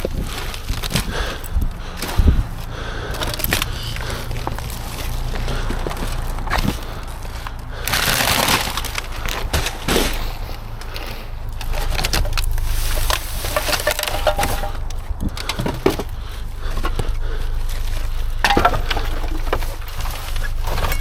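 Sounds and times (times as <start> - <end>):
debris crunching in a dumpster: 0.0 - 21.0
knocks and cracking: 0.0 - 21.0
steady low rumble: 0.0 - 21.0.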